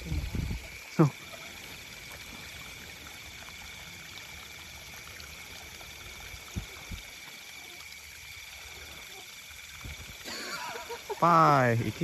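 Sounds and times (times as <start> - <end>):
night insects buzzing: 0.0 - 12.0.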